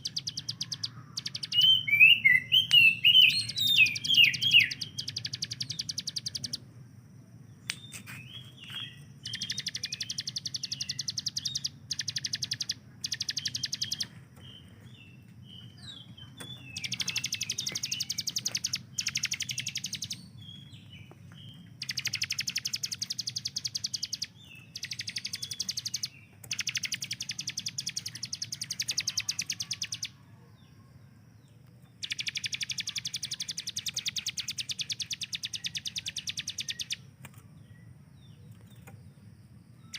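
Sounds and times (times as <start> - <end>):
bird rattling song: 0.0 - 6.6, 7.6 - 30.1, 32.0 - 37.4
bird chirps: 0.0 - 6.7, 7.5 - 39.9.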